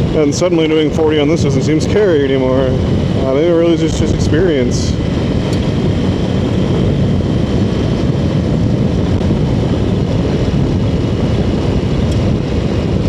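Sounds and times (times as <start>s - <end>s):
motorcycle engine: 0.0s - 13.0s
wind noise: 0.0s - 13.0s.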